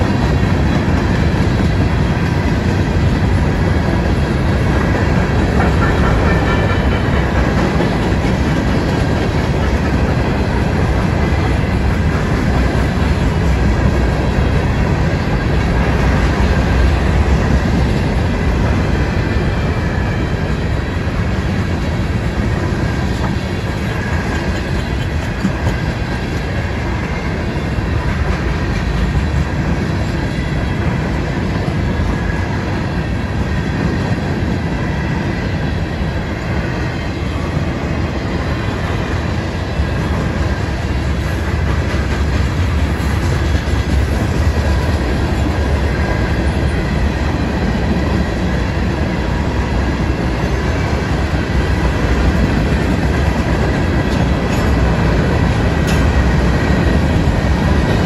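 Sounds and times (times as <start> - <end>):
clickety-clack over rail joints: 0.0 - 58.0
train wheels rumbling on rail: 0.0 - 58.0.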